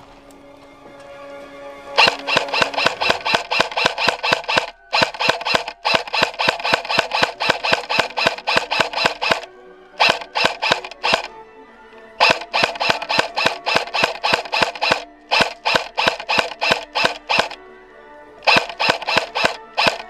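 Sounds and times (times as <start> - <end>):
airsoft gun rapid fire: 2.0 - 11.3, 12.1 - 17.6, 18.4 - 20.0.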